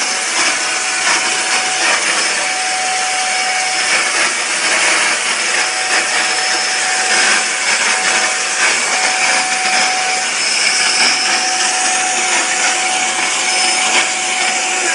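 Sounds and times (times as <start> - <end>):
vacuum cleaner running: 0.0 - 14.9.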